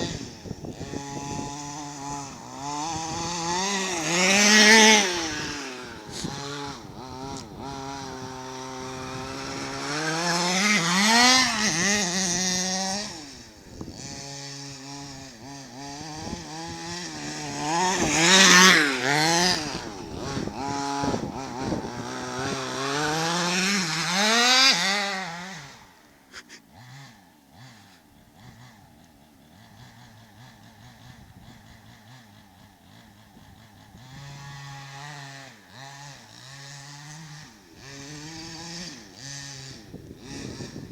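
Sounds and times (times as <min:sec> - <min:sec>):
rc car engine revving: 0:00.0 - 0:40.9.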